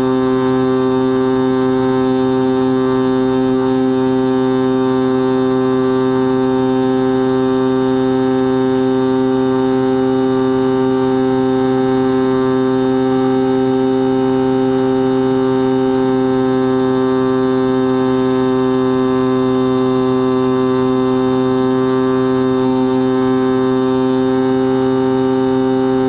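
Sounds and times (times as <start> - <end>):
motor and propeller humming: 0.0 - 26.0.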